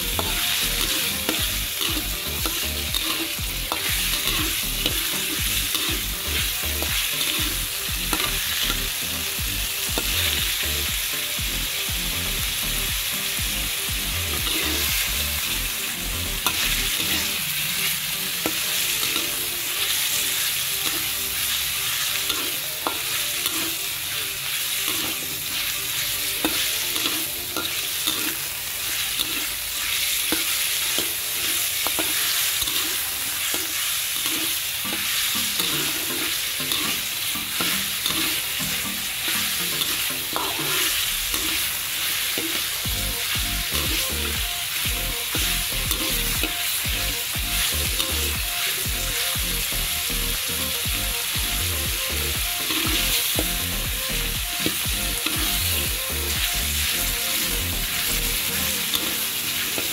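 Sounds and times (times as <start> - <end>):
food sizzling in hot oil: 0.0 - 59.9
spatula scraping wok: 0.0 - 59.9.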